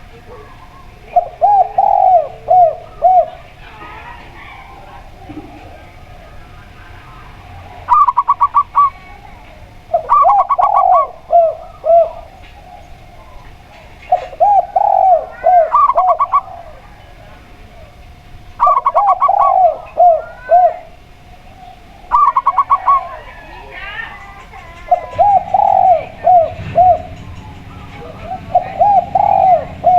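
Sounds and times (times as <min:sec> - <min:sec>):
doves cooing: 0:00.0 - 0:29.9.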